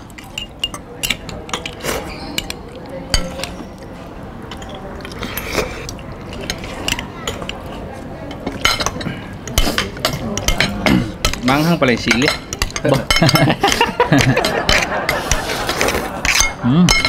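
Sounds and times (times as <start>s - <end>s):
cutlery clinking on plates: 0.0s - 17.0s.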